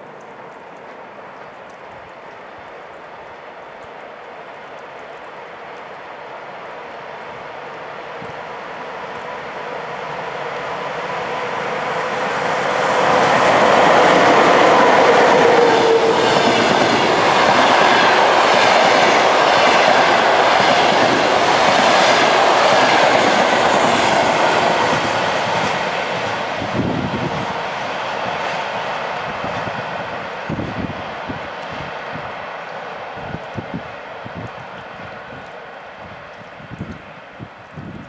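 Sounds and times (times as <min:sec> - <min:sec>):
train rolling rumble: 0:00.0 - 0:38.0
locomotive whine: 0:05.4 - 0:36.1.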